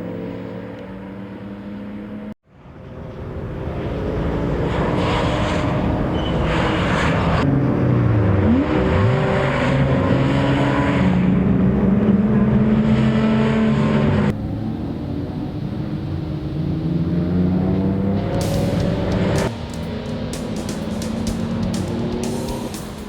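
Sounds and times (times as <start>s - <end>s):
racing car engine running hard: 3.3s - 23.0s.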